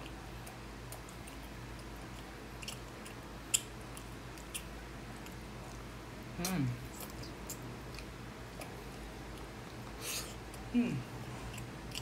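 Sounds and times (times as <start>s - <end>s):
person chewing: 0.0s - 12.0s
steady low hum: 0.0s - 12.0s.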